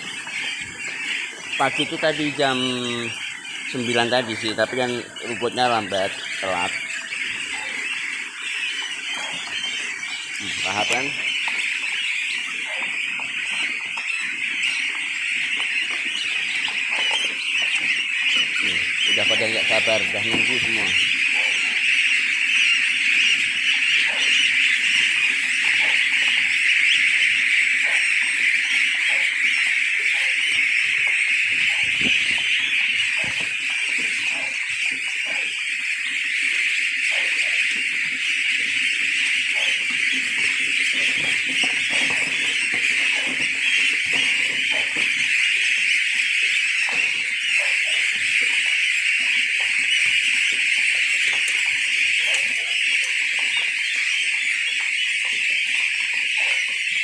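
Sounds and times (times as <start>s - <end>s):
goslings peeping: 0.0s - 57.0s.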